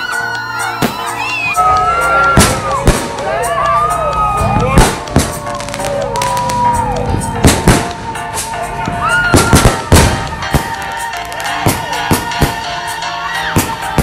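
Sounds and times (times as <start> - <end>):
fireworks gliding whistles: 0.0 - 3.1, 4.4 - 14.0
fireworks bangs: 0.6 - 3.4, 4.4 - 12.8, 13.4 - 14.0.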